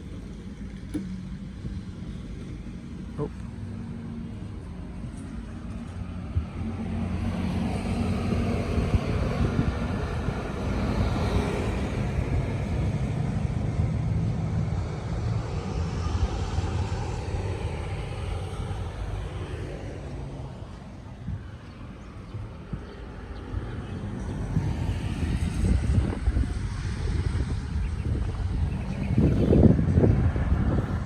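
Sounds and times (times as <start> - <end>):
engine low rumble: 0.0 - 31.0.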